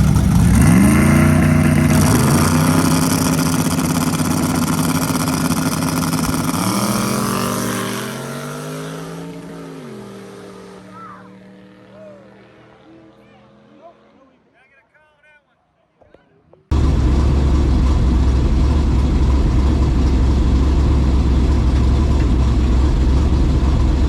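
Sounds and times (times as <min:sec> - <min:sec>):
car engine at full throttle: 0:00.0 - 0:13.7, 0:16.7 - 0:24.0.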